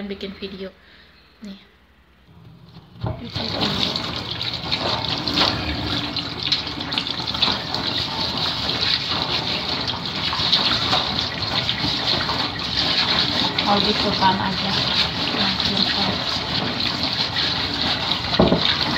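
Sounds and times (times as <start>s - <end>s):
clatters in water stream: 2.7s - 18.9s
water running from a tap: 2.7s - 18.9s.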